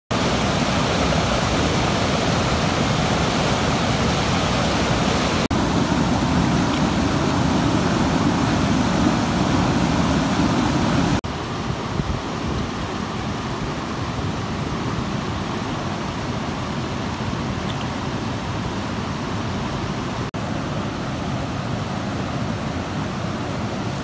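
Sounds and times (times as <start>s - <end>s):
river white water rushing: 0.1s - 24.0s.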